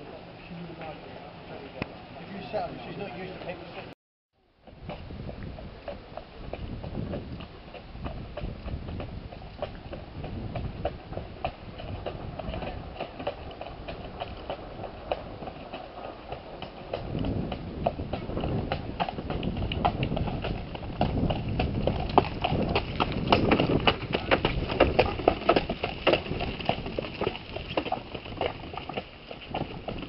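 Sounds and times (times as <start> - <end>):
horse hooves clip-clopping on gravel: 4.6 - 30.0.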